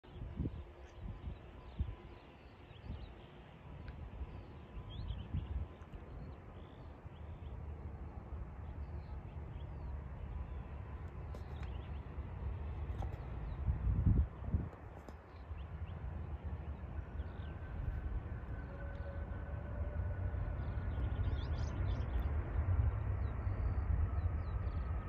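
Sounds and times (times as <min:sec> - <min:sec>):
wind buffeting microphone: 0:00.0 - 0:07.7, 0:09.5 - 0:25.0
distant airliner rumble: 0:00.0 - 0:25.0.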